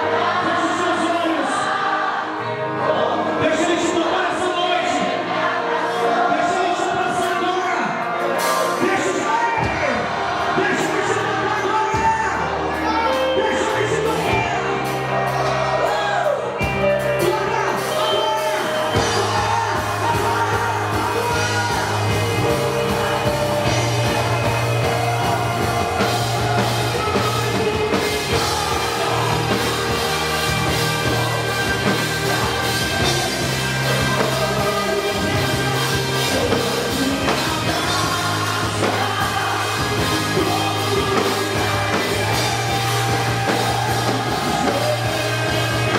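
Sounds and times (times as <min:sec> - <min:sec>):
band playing worship song: 0:00.0 - 0:45.9
person singing: 0:05.6 - 0:45.9.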